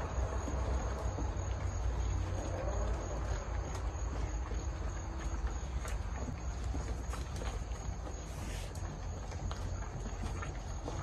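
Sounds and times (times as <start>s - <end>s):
kibble crunching: 0.0s - 11.0s.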